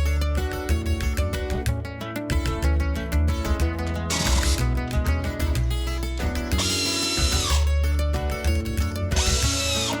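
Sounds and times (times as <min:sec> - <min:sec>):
bass line: 0:00.0 - 0:10.0
plucked and strummed guitar: 0:00.0 - 0:10.0.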